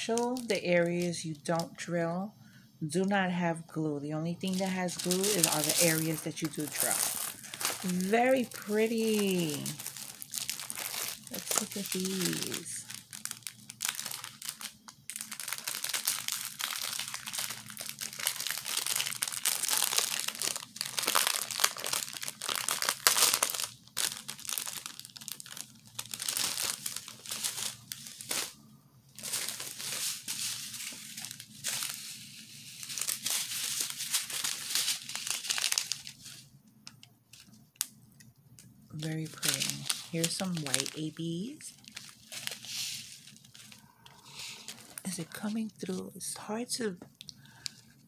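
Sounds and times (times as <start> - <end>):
plastic packets crinkling: 0.0 - 1.7, 4.4 - 46.1, 47.1 - 48.0.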